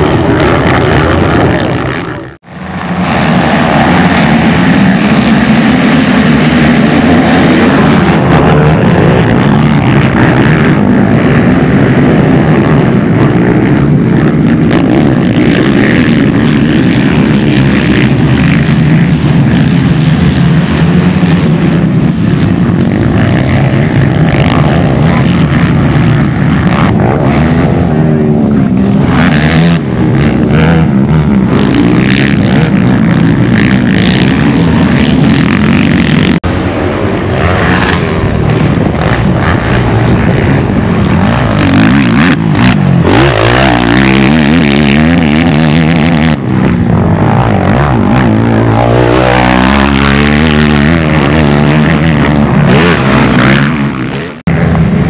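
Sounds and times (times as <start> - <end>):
quad engines revving: 0.0 - 55.0.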